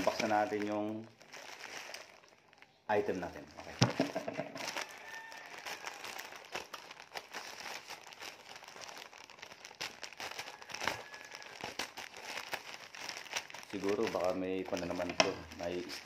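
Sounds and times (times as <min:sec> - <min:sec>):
plastic mailer bag crinkling: 0:00.0 - 0:16.0.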